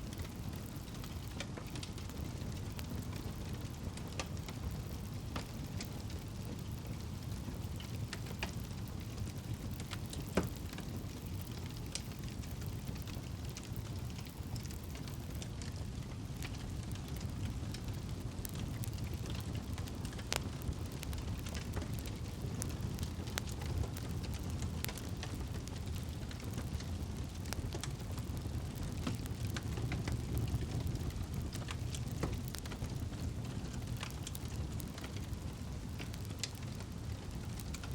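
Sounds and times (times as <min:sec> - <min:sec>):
burning wood crackling and popping: 0:00.0 - 0:37.9
low rush of flame: 0:00.0 - 0:37.9.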